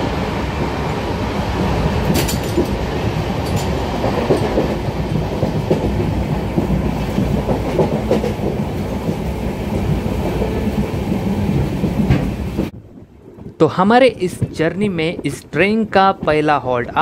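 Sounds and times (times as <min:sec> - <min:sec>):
clickety-clack of rail joints: 0:00.0 - 0:17.0
train coach rattling: 0:00.0 - 0:17.0
train wheels rumbling on rails: 0:00.0 - 0:17.0.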